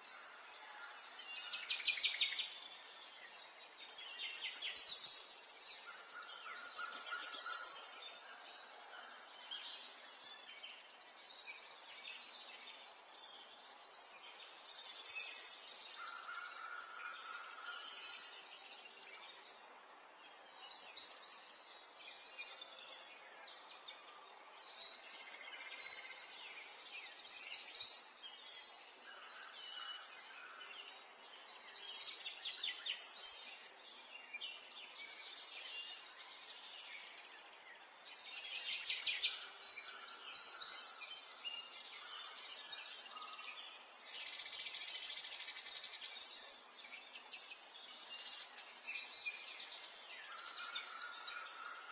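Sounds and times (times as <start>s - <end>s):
wild birds chirping and trilling: 0.0s - 51.9s.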